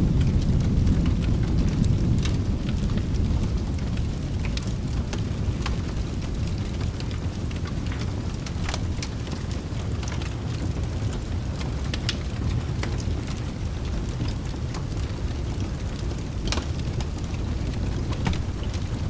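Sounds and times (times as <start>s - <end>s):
fire crackling and popping: 0.0s - 19.0s
rain rumbling: 0.0s - 19.0s.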